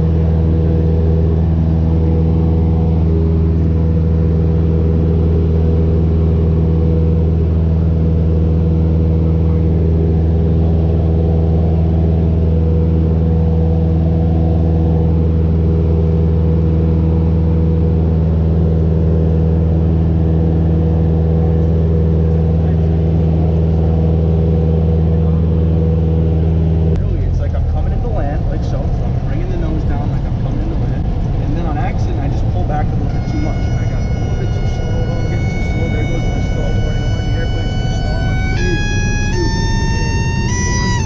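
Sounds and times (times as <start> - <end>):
airplane engine drone: 0.0 - 41.0.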